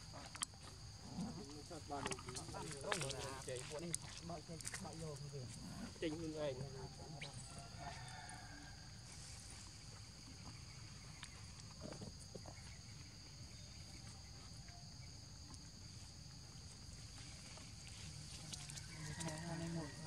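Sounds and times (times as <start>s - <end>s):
faint ticks and rustles: 0.0s - 20.0s
insects buzzing drone: 0.0s - 20.0s.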